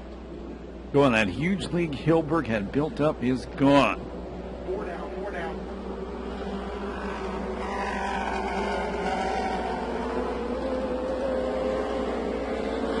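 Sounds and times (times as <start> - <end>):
car passing close: 0.0 - 13.0
race car engines droning: 0.0 - 13.0.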